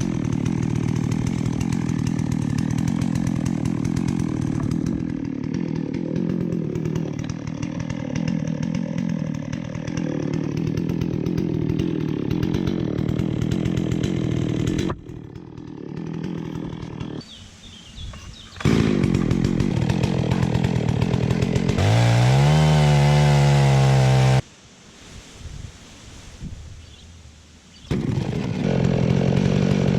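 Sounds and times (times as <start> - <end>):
chainsaw cutting a log: 0.0 - 17.3, 18.0 - 24.4, 27.8 - 29.9.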